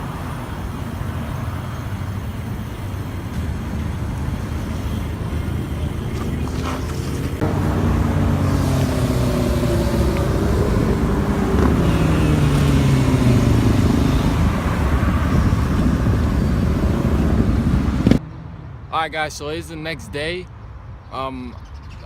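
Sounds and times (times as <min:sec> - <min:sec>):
vehicle engine rumbling: 0:00.0 - 0:20.4.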